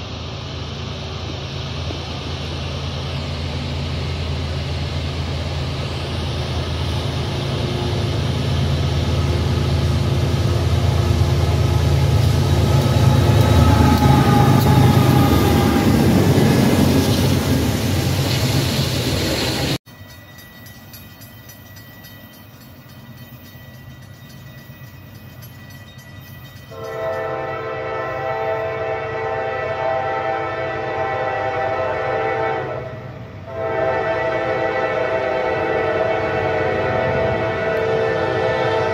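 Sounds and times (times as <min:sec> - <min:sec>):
diesel locomotive engine drone: 0:00.0 - 0:38.9
rail noise: 0:00.0 - 0:38.9.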